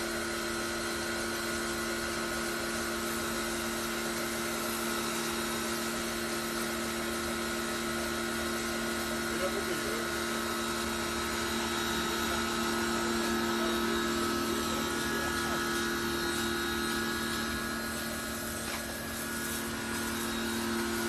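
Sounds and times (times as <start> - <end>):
pressure washer running: 0.0 - 21.0.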